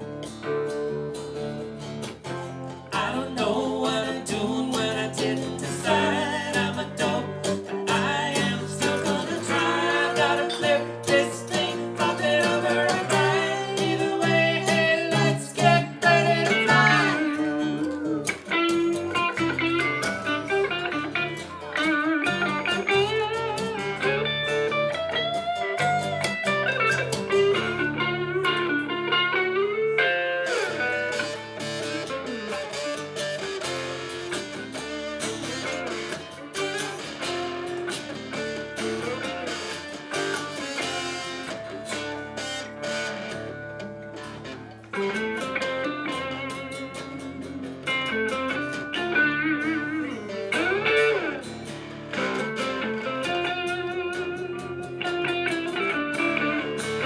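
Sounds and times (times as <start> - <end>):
blues guitar with bending notes: 0.0 - 57.0
live band playing: 0.0 - 57.0.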